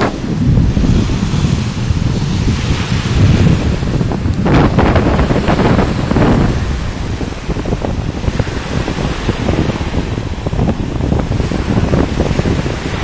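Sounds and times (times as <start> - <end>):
surf washing onto sandy beach: 0.0 - 13.0
wind buffeting microphone: 0.0 - 13.0.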